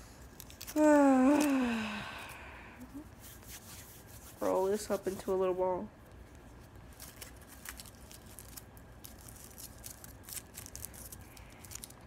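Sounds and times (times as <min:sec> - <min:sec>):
hands rolling crinkling bundle: 0:00.0 - 0:05.4, 0:06.1 - 0:12.0.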